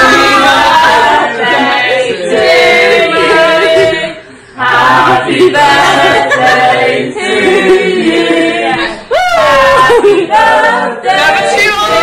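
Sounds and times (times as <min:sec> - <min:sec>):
group singing without instruments: 0:00.0 - 0:12.0.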